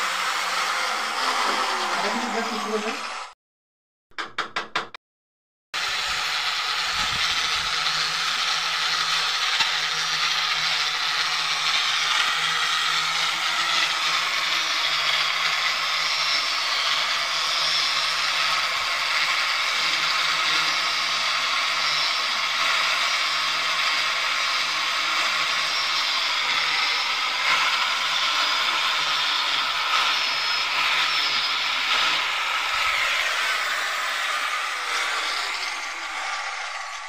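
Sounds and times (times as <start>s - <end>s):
electric drill boring into brick: 0.0s - 3.4s, 5.8s - 37.0s.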